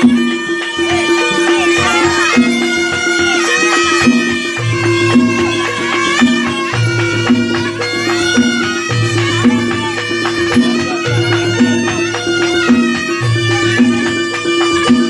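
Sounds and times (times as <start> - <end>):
reedy shawm melody: 0.0 - 15.0
steady held tone: 0.0 - 15.0.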